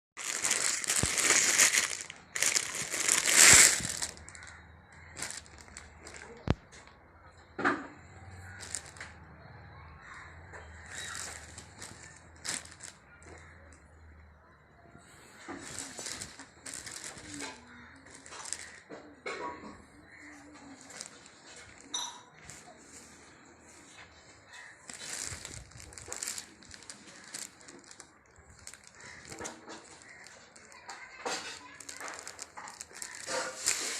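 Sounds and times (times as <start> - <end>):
packaging rustling and crinkling: 0.2 - 6.9, 8.4 - 9.1, 10.8 - 13.5, 15.4 - 18.9, 20.1 - 33.9.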